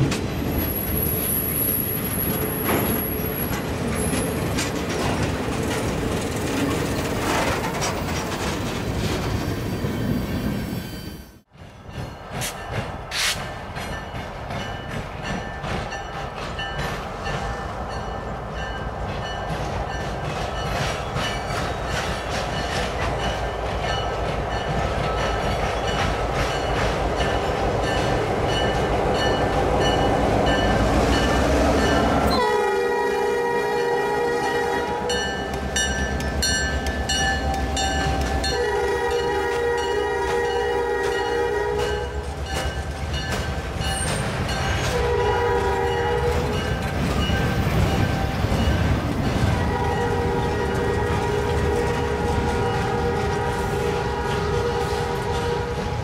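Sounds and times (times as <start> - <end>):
diesel locomotive engine: 0.0 - 56.0
freight car wheels on rail: 0.0 - 56.0.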